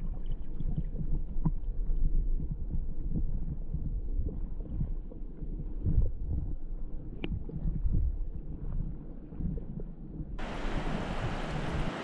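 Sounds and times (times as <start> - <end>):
muffled underwater river rumble: 0.0 - 12.0.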